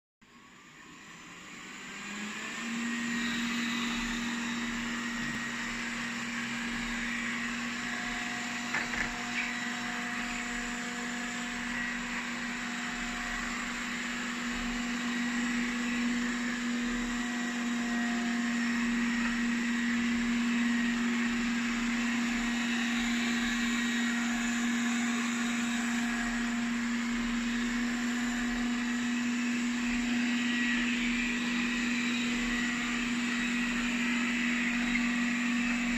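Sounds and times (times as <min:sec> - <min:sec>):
robot vacuum running: 0:00.3 - 0:35.9.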